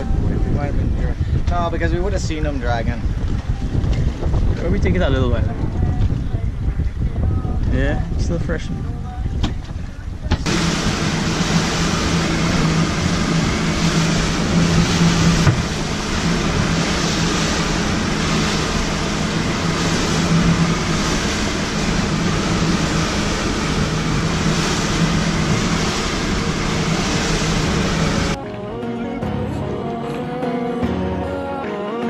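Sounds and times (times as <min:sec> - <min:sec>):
wind and water rushing: 0:00.0 - 0:28.4
boat engine running: 0:00.0 - 0:31.5.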